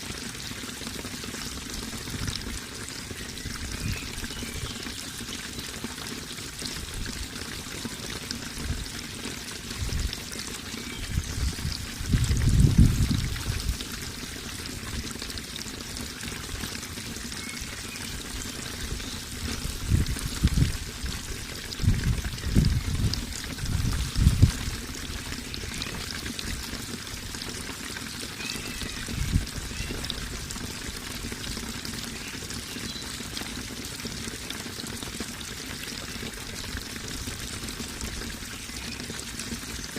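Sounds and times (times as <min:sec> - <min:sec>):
running water pouring: 0:00.0 - 0:39.9.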